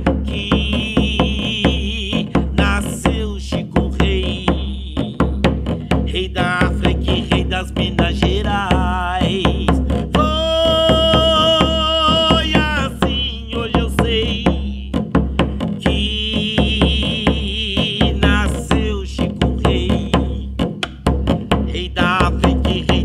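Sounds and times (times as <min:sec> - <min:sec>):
drum struck with a stick: 0:00.0 - 0:23.0.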